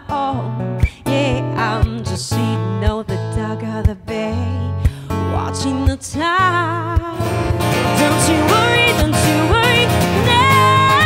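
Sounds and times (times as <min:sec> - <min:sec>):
acoustic guitar: 0:00.0 - 0:11.0
woman singing: 0:00.0 - 0:11.0.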